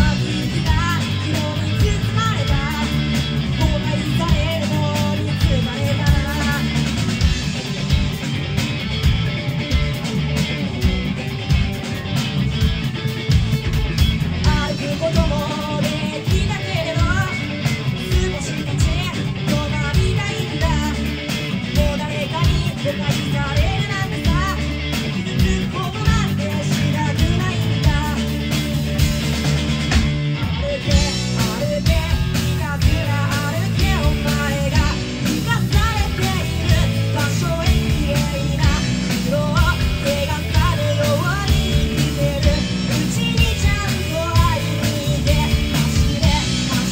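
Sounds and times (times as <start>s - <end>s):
woman singing: 0.0s - 7.2s, 14.4s - 28.8s, 30.5s - 46.9s
bass guitar: 0.0s - 46.9s
distorted electric guitar: 0.0s - 46.9s
drum kit steady beat: 0.0s - 46.9s.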